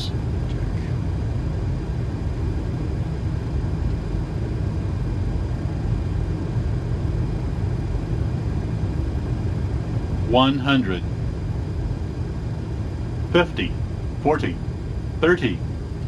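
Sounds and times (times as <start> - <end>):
airflow and engines rumbling: 0.0 - 16.0.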